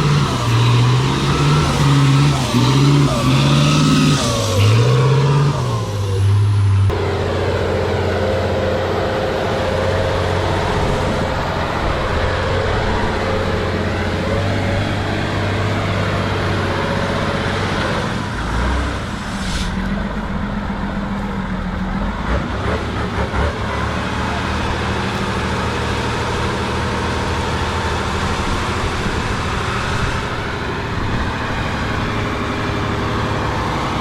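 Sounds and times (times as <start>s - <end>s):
truck engine working hard: 0.0s - 34.0s.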